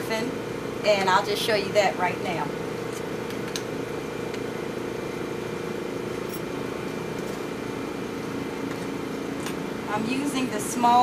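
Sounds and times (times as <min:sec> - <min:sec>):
lab equipment humming: 0:00.0 - 0:11.0.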